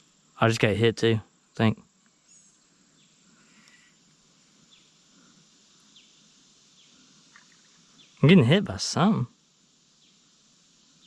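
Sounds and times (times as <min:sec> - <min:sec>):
faint high chirps: 0:00.0 - 0:09.3.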